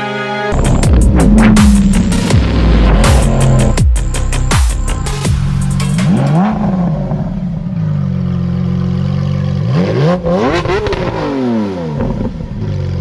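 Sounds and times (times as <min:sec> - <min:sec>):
sports car engine idling and revving: 0:00.5 - 0:13.0.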